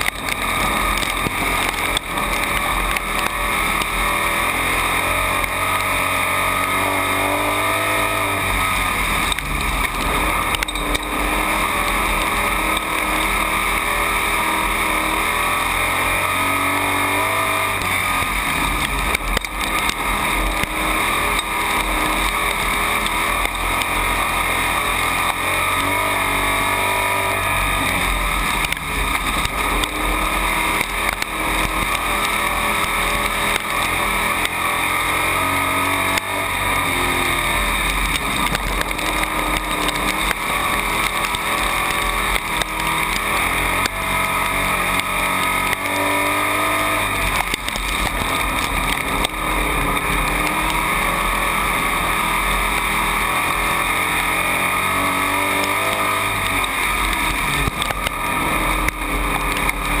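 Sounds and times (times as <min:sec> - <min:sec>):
race car engine revving: 0:00.0 - 1:00.0
wind and track noise: 0:00.0 - 1:00.0.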